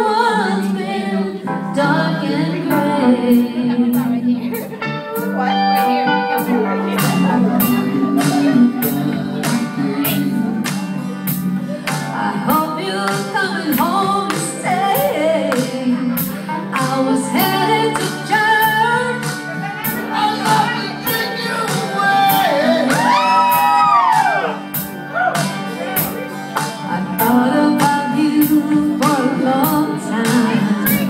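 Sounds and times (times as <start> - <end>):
woman and man singing: 0.0 - 4.8, 5.8 - 23.9, 26.9 - 31.0
pop backing track with beat: 0.0 - 31.0.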